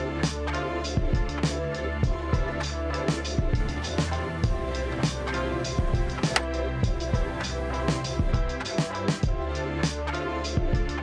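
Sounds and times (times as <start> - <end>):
background music with drums: 0.0 - 11.0.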